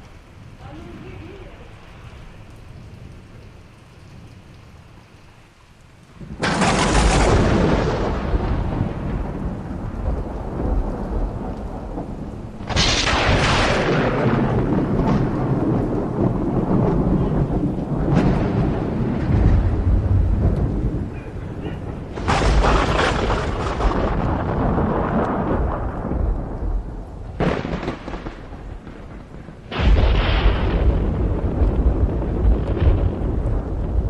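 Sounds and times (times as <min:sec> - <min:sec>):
rain hissing: 0:00.0 - 0:34.0
thunder clap and rumble: 0:06.1 - 0:34.0.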